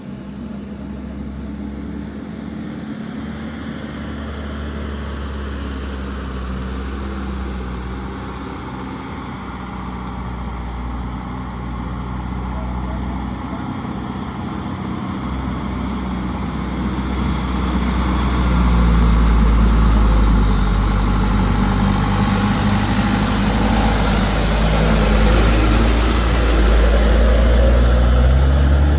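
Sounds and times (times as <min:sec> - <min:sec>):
truck engine labouring: 0:00.1 - 0:28.9.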